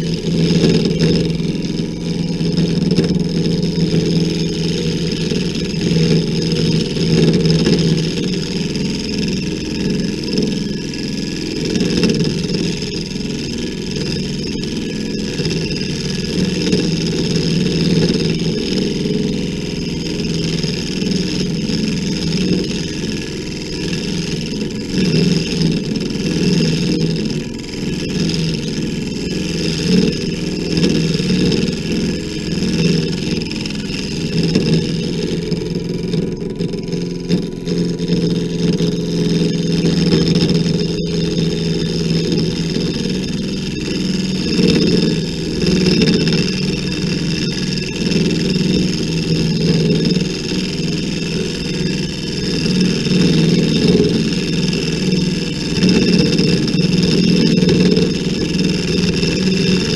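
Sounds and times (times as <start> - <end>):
lathe motor whine: 0.0 - 59.9.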